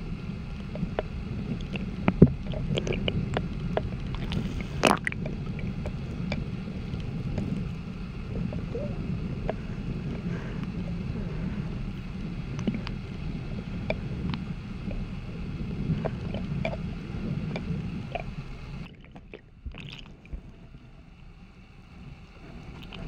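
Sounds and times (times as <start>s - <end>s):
underwater river current rumbling: 0.0s - 23.0s.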